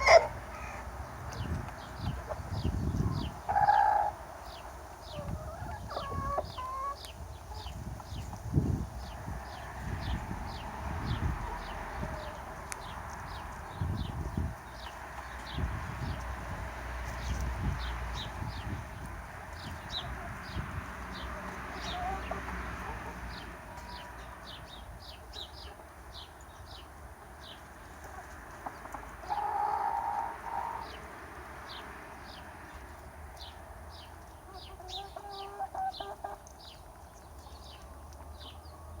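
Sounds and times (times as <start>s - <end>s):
chickens clucking: 0.0s - 31.8s, 32.7s - 39.0s.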